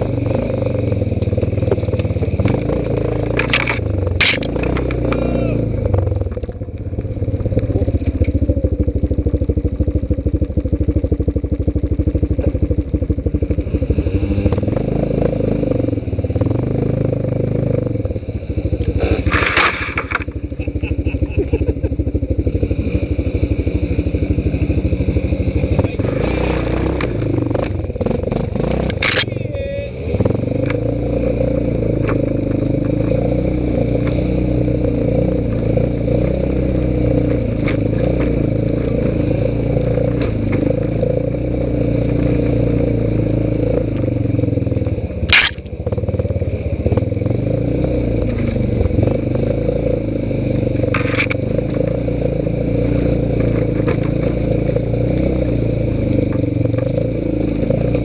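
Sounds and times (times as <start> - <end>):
atv engine rumbling: 0.0 - 58.0.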